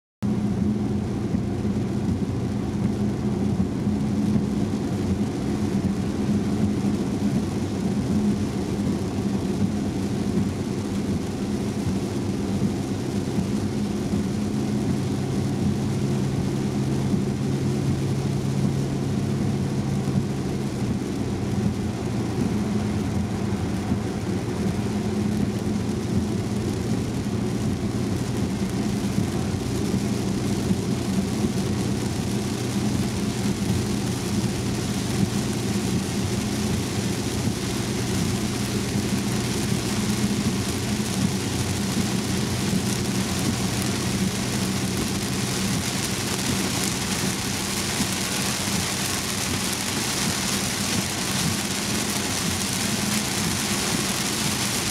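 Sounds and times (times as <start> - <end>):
car engine and tyres droning: 0.2 - 54.9
tyre spray and rain hissing: 0.7 - 54.9.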